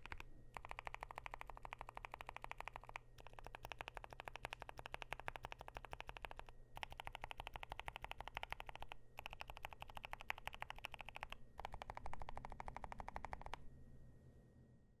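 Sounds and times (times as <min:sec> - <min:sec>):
soft fast keyboard typing: 0:00.0 - 0:13.6.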